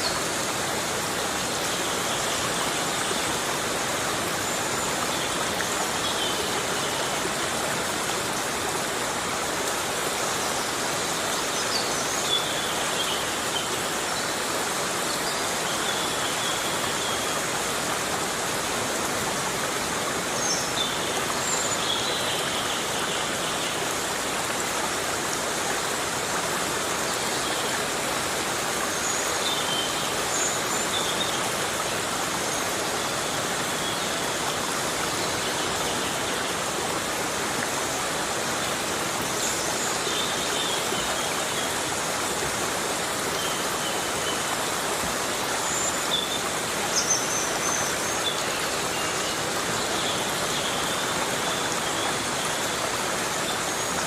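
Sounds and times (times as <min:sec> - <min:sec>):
heavy rain falling on forest: 0:00.0 - 0:54.0.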